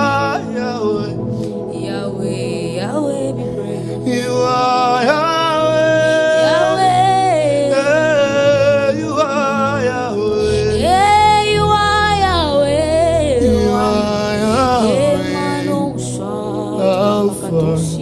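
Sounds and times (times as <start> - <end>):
solo voice singing: 0.0 - 18.0
sustained accompaniment: 0.0 - 18.0.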